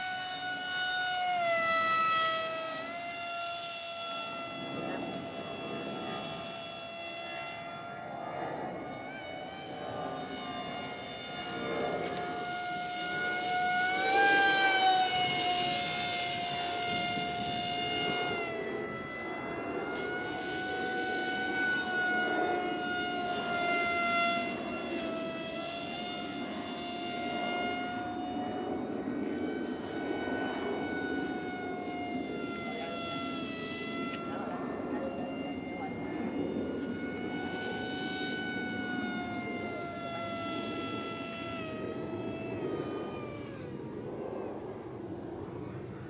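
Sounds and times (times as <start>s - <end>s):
electric motor high whine: 0.0s - 46.0s.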